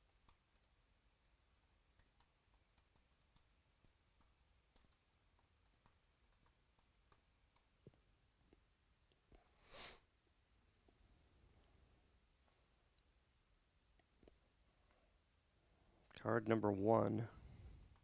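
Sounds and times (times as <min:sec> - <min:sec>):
faint irregular clicks: 0:00.0 - 0:09.6, 0:10.7 - 0:18.0.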